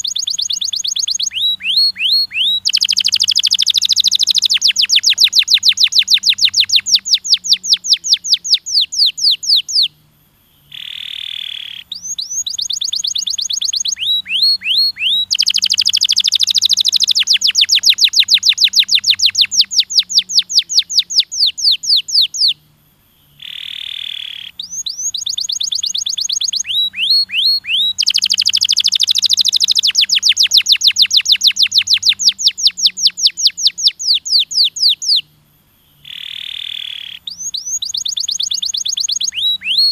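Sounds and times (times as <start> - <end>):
quick chirps: 0.0 - 9.9, 10.7 - 22.6, 23.4 - 35.2
canary singing trills: 0.0 - 39.9.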